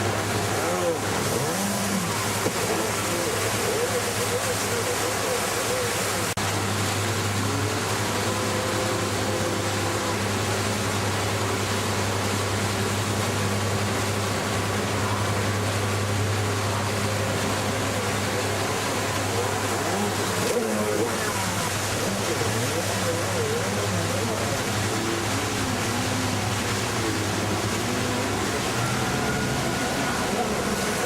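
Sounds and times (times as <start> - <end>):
jet ski engine running: 0.0 - 31.0
rushing water and wind: 0.0 - 31.0.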